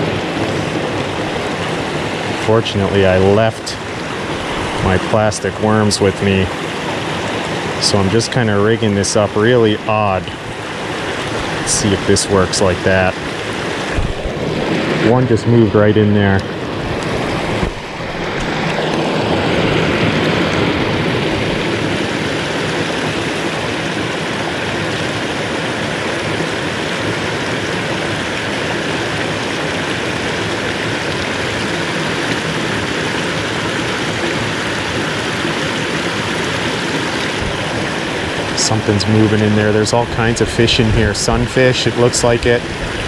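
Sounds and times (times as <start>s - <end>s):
water rushing over dam: 0.0s - 43.0s.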